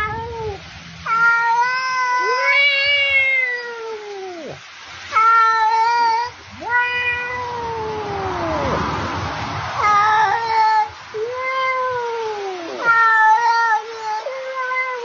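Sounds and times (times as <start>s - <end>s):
cat meowing: 0.0s - 8.8s, 9.8s - 15.0s.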